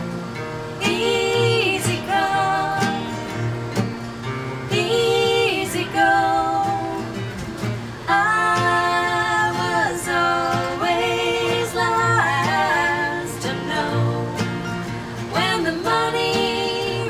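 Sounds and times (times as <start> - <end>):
voices singing in harmony: 0.7 - 17.0.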